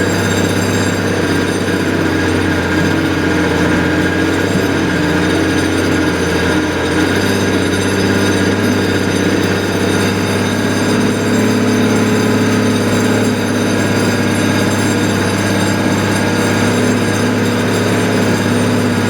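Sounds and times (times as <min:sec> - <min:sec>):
heavy engine running: 0:00.0 - 0:19.0.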